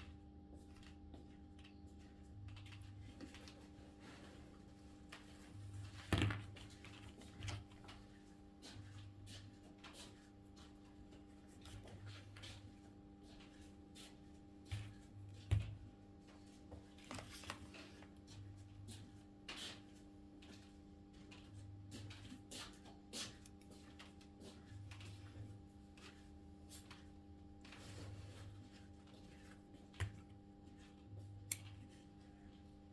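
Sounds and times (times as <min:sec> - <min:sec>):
steady electrical hum: 0:00.0 - 0:32.9.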